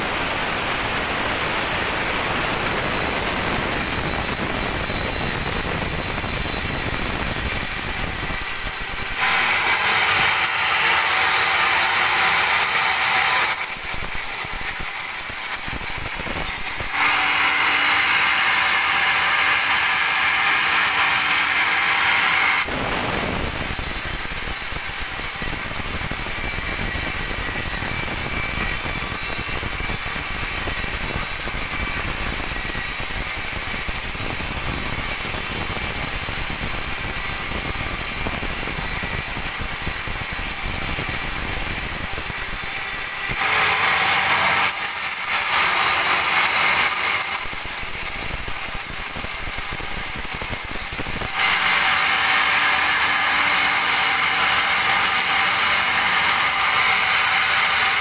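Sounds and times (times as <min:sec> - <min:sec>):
band saw cutting a log: 0:00.0 - 0:58.0.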